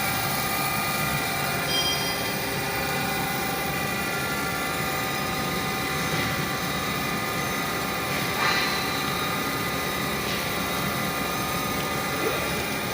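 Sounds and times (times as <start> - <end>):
boring mill machine whine: 0.0 - 12.9.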